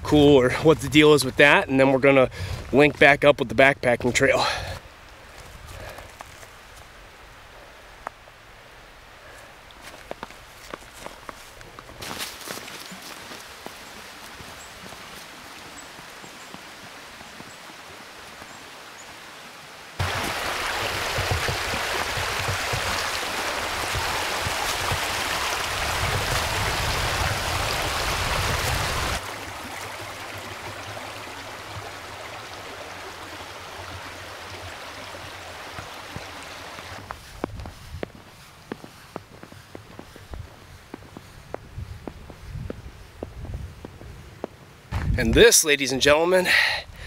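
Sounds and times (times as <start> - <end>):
creek water rushing: 0.0 - 41.5.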